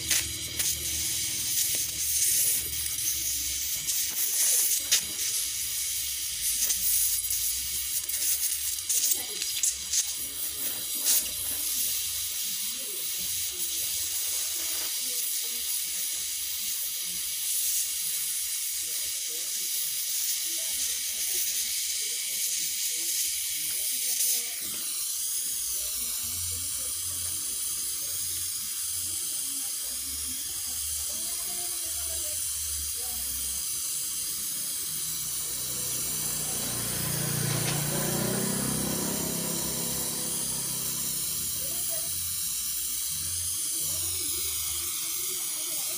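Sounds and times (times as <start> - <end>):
welding torch flame hissing: 0.0 - 45.9.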